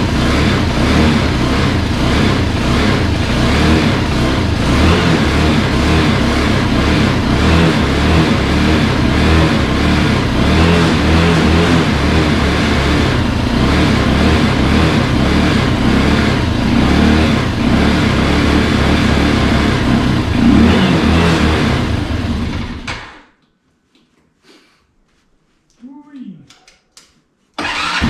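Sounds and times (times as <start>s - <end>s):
atv engine revving: 0.0s - 23.1s, 27.6s - 28.0s.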